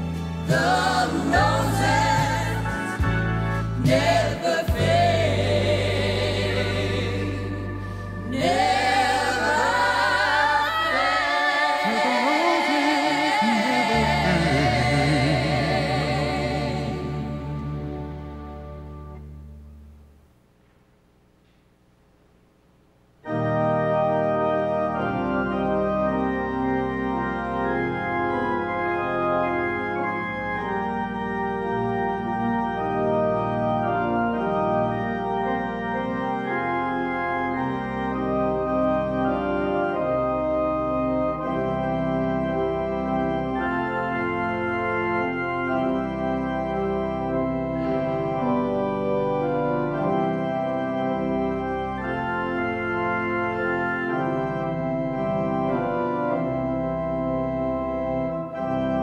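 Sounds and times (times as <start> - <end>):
church organ chords: 0.0 - 20.3, 23.2 - 59.0
deep organ pedal notes: 0.0 - 20.4, 23.2 - 59.0.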